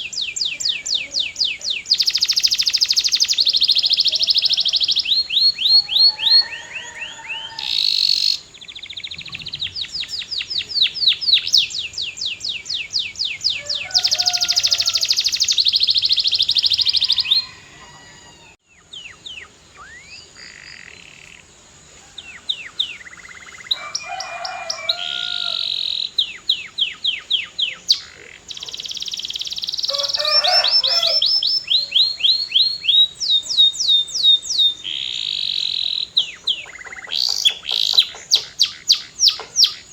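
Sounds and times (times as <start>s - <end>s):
canary singing: 0.0s - 21.4s, 22.2s - 39.9s.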